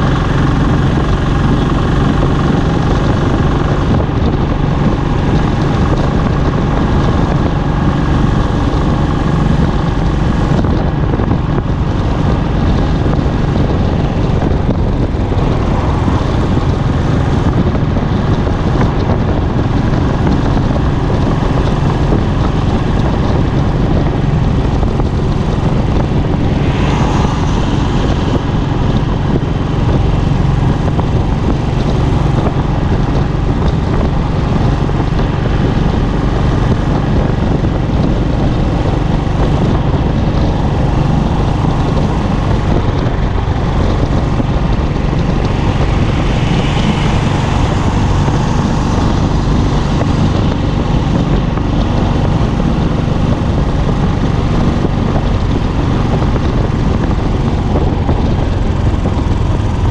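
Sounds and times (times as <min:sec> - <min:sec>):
motorcycle engine cruising: 0:00.0 - 0:59.9
wind rush over microphone: 0:00.0 - 0:59.9.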